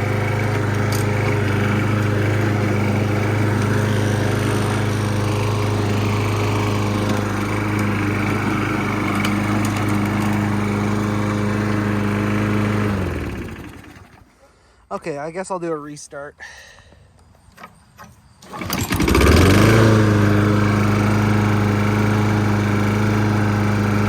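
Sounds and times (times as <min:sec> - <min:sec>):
lawn mower engine running: 0:00.0 - 0:14.4, 0:17.5 - 0:24.0.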